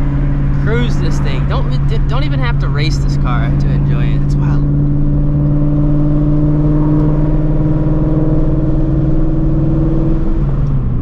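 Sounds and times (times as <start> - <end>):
car engine cruising drone: 0.0 - 11.0.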